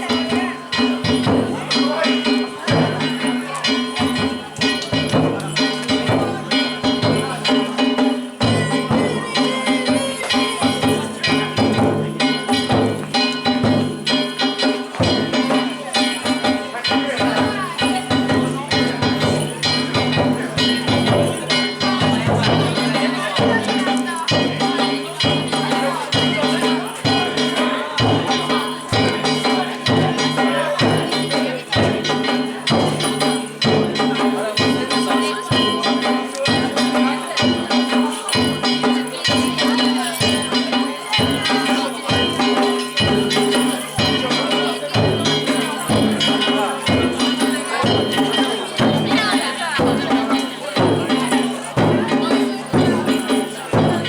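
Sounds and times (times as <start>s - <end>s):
drum beating fast rhythm: 0.0s - 54.0s.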